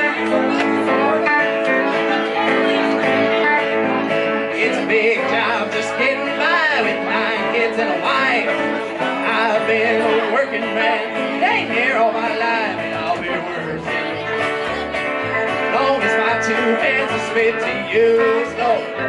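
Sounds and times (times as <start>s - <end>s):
acoustic guitar: 0.0s - 19.0s
electric guitar: 0.0s - 19.0s
upright bass: 0.0s - 19.0s.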